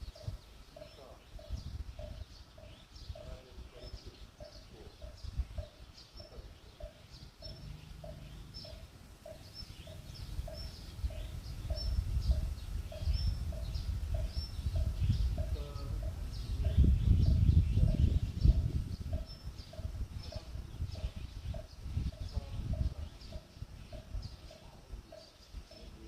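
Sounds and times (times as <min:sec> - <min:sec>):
small birds chirping: 0:00.0 - 0:26.0
wind rumbling on microphone: 0:00.0 - 0:26.0.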